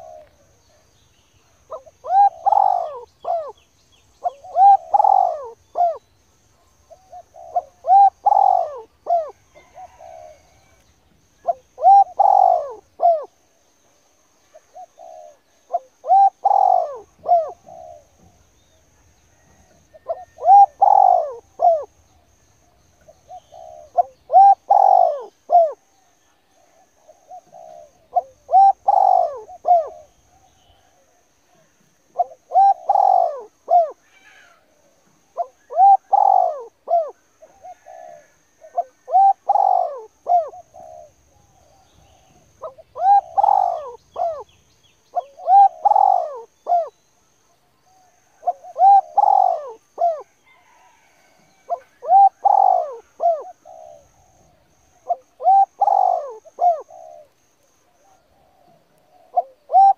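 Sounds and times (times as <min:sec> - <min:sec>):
bird calling: 0:00.0 - 0:13.5, 0:14.5 - 0:59.9.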